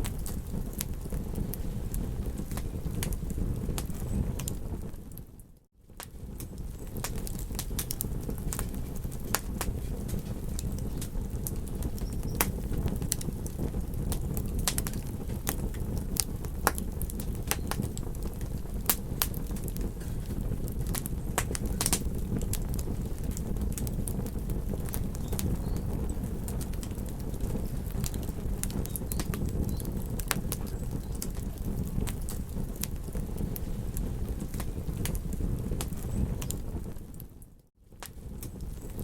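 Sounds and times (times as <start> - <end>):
burning wood popping: 0.0 - 39.0
campfire crackling: 0.0 - 39.0.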